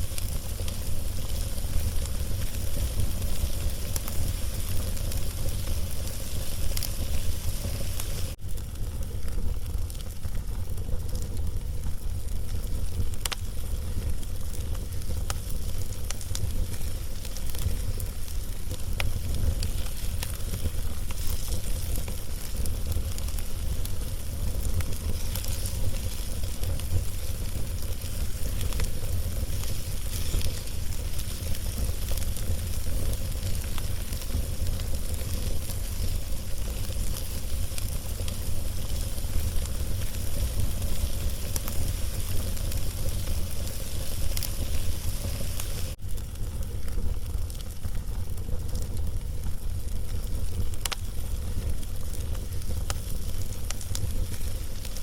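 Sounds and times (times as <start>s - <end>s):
log fire crackling: 0.0s - 55.0s.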